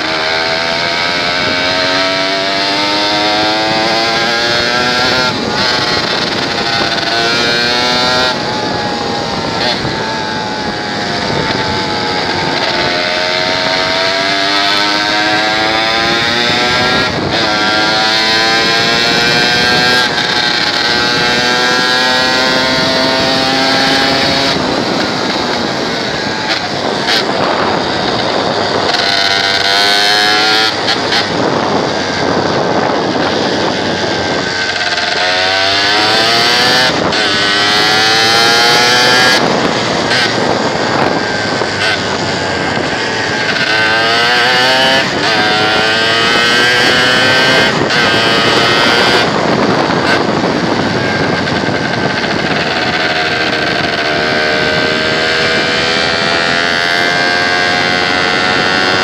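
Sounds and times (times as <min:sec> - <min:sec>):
motorcycle engine shifting gears: 0:00.0 - 0:59.0
wind on microphone: 0:00.0 - 0:59.0.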